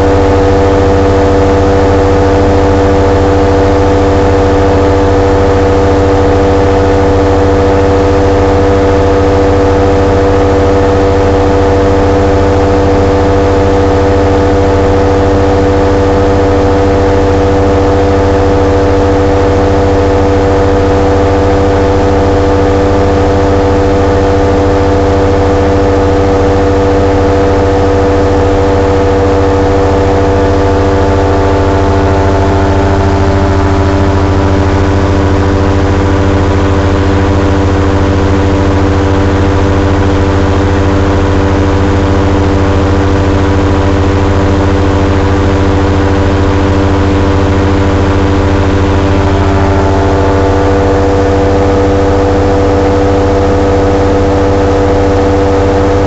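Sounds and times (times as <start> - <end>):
aircraft engine running steadily: 0.0 - 56.0.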